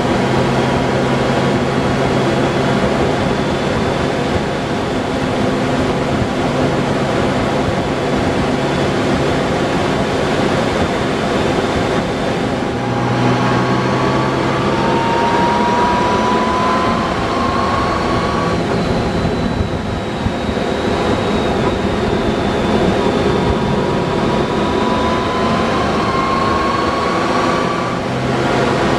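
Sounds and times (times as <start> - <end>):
thin whine rising in pitch: 0.0 - 28.9
wind rushing over microphone: 0.0 - 28.9.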